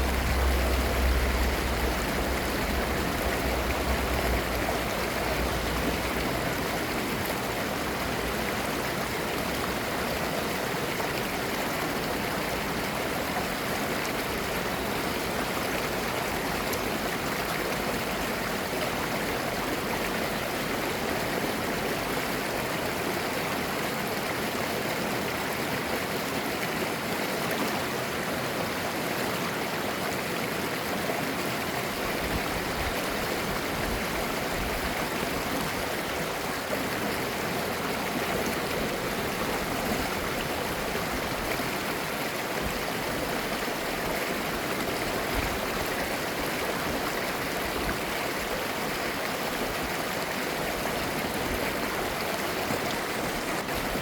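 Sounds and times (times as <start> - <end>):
stream gurgling over rocks: 0.0 - 54.0.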